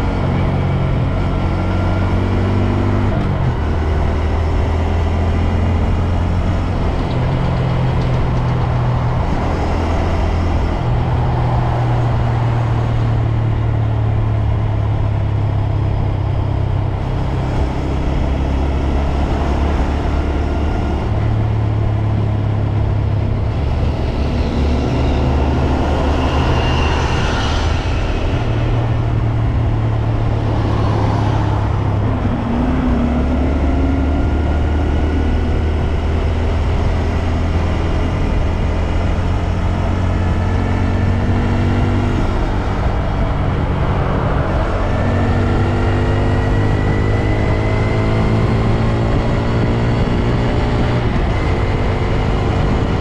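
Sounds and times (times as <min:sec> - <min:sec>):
motorcycle engine droning: 0:00.0 - 0:53.0
wind and road noise: 0:00.0 - 0:53.0.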